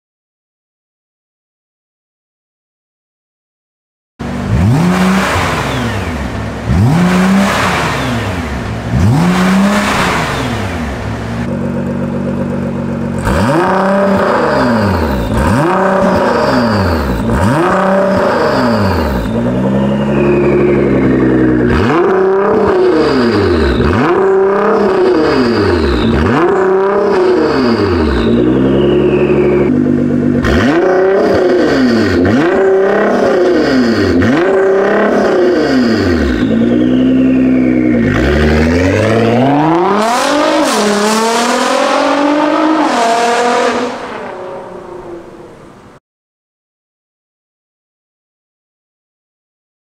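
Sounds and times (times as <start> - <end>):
car engine revving: 4.2 - 46.0.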